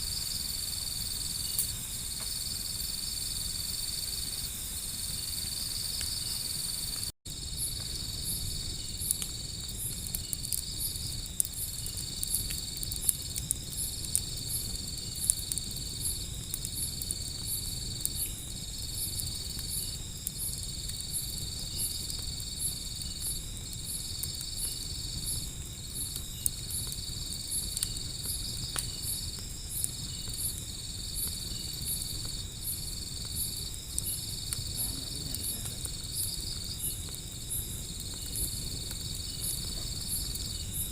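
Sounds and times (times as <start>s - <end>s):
insects trilling: 0.0s - 40.9s
wood fire crackling: 0.0s - 40.9s.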